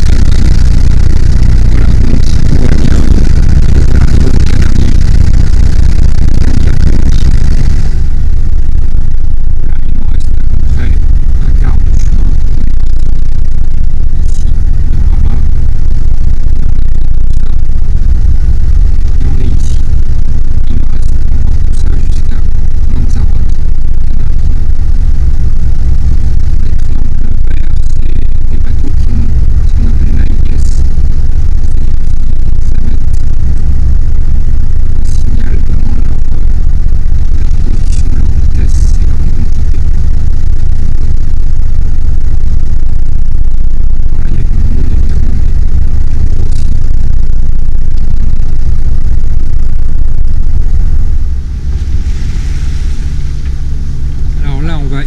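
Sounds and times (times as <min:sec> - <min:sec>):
low rumble of boat underway: 0:00.0 - 0:55.0.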